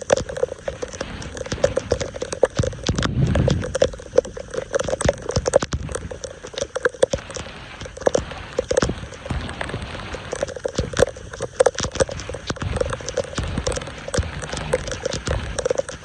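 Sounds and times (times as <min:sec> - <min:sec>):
sharp clicks and taps: 0:00.0 - 0:16.0
water splashing and gurgling: 0:00.0 - 0:16.0.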